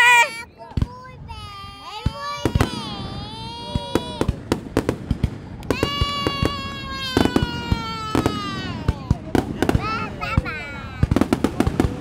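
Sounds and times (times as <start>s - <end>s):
fireworks bangs and pops: 0.6s - 12.0s.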